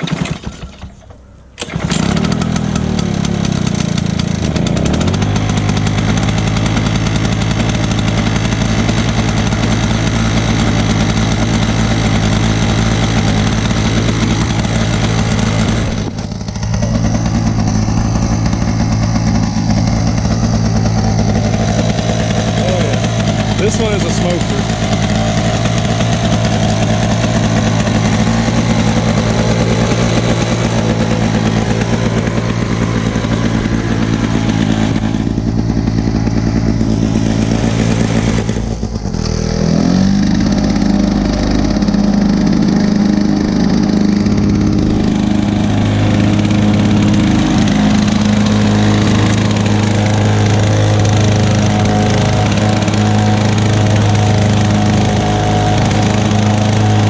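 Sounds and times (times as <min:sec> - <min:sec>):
two-stroke mower engine running: 0:00.0 - 0:57.0.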